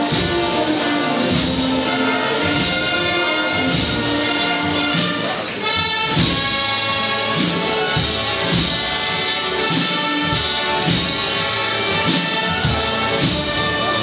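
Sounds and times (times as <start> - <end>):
brass band music: 0.0 - 14.0.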